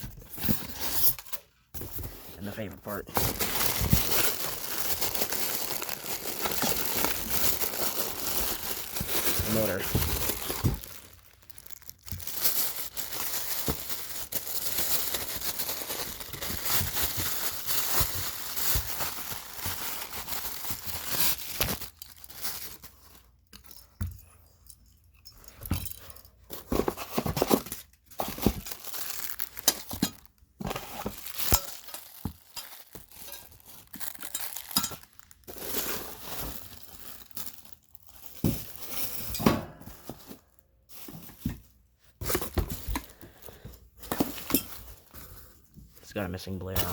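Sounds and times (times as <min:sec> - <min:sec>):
packing material rustling: 0:00.0 - 0:23.8, 0:26.5 - 0:45.7.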